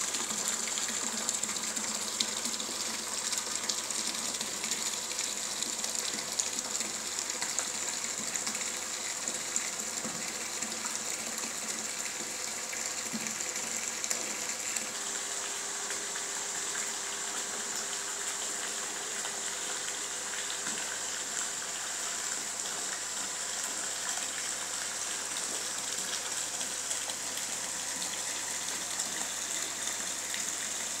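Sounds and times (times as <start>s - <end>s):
wine pouring from hose: 0.0s - 31.0s.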